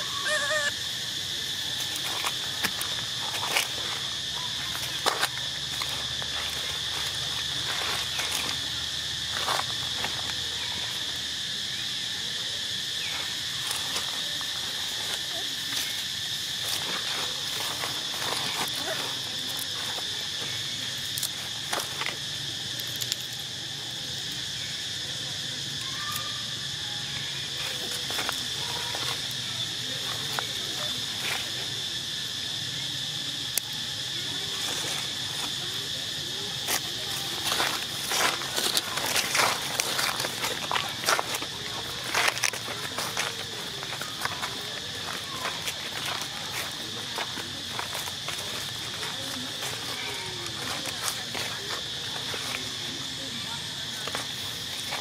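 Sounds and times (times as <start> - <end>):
dry leaves crackling: 0.0 - 24.5, 25.2 - 55.0
insects calling in chorus: 0.0 - 55.0.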